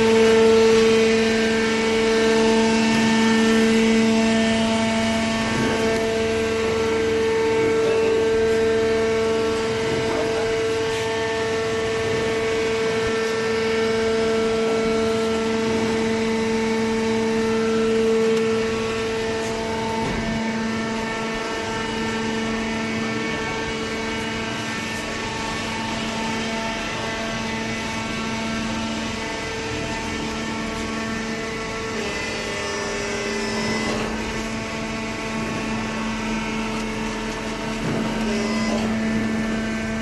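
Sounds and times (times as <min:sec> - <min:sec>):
hydraulic press motor humming: 0:00.0 - 0:40.0.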